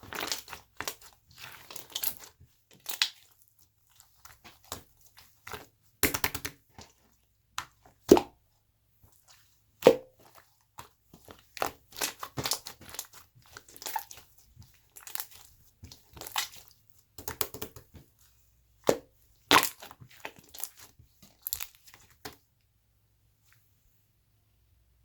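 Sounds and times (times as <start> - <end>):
slime squished by hand: 0.0 - 8.4, 9.1 - 22.4.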